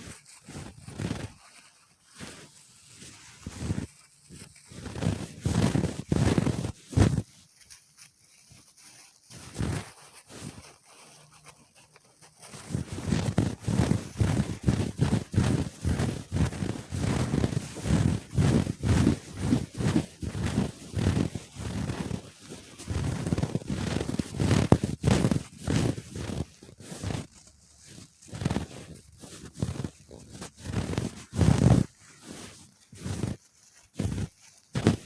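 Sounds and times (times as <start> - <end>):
soft strokes on microphone: 0.0 - 35.0.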